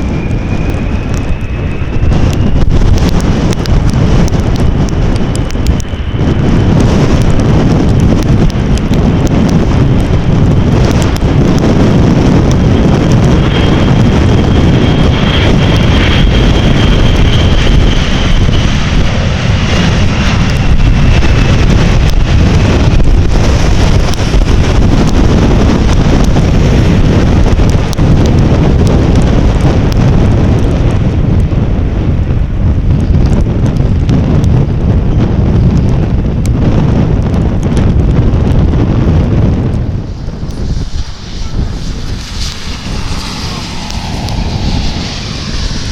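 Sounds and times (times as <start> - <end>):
jet airliner engine whine: 0.0 - 45.9
wind buffeting microphone: 0.0 - 45.9.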